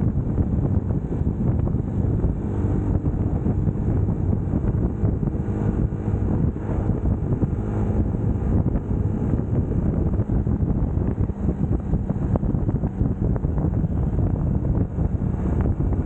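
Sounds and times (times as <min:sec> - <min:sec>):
motorcycle engine running: 0:00.0 - 0:16.0
wind on microphone: 0:00.0 - 0:16.0.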